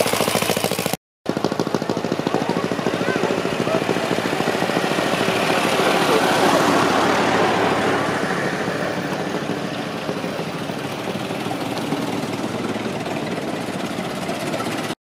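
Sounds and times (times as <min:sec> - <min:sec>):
old car engines driving past: 0:00.0 - 0:15.0.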